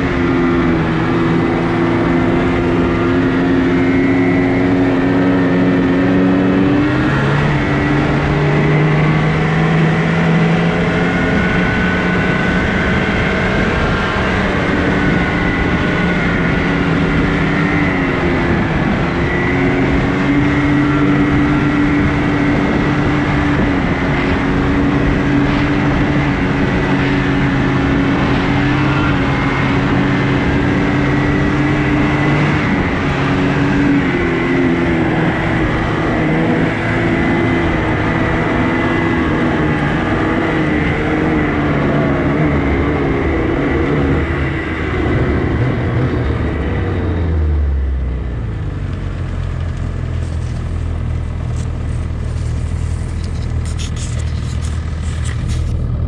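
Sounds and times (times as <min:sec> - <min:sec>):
snowmobile engine: 0:00.0 - 0:56.0.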